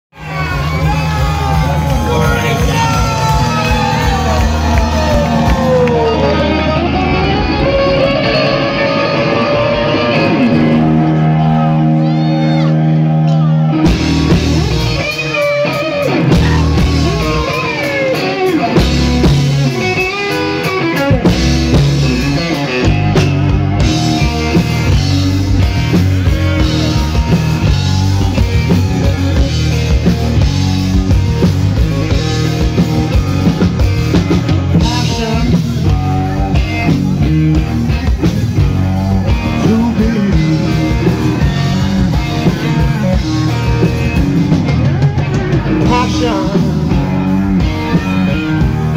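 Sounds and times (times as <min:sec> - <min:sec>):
bass guitar: 0:00.1 - 0:48.9
electric guitar: 0:00.1 - 0:48.9
drum kit: 0:00.2 - 0:48.9.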